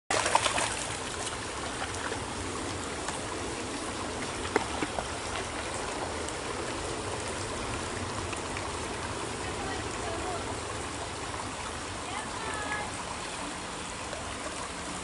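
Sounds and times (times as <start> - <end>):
stream trickling: 0.1 - 15.0.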